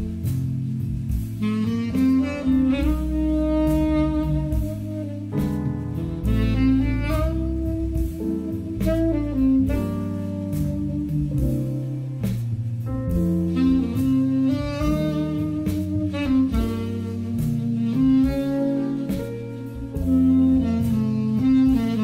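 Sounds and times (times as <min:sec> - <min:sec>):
held melody over deep bass: 0:00.0 - 0:22.0
music over loudspeakers: 0:00.0 - 0:22.0.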